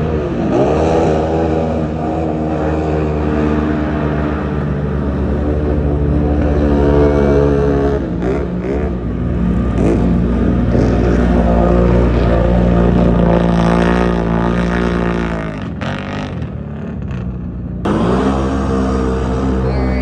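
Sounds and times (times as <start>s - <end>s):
race vehicle engines revving: 0.0s - 20.0s.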